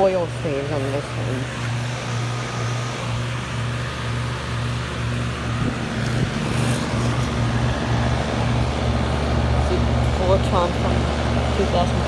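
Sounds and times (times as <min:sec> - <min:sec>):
air conditioner compressor hum: 0:00.0 - 0:12.0
condenser fan rushing: 0:00.0 - 0:12.0.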